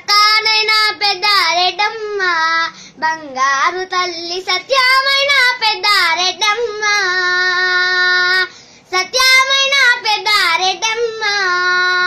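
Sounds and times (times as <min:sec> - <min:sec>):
boy singing unaccompanied: 0:00.0 - 0:12.0.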